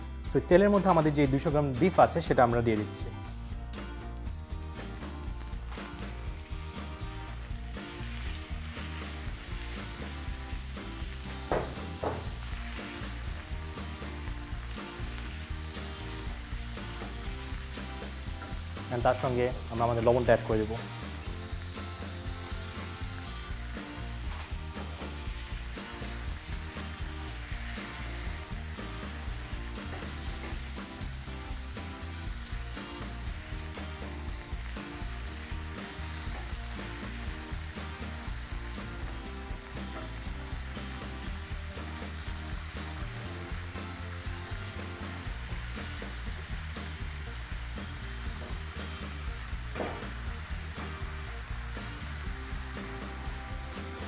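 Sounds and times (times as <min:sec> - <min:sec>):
meat sizzling in a wok: 0:03.3 - 0:54.0.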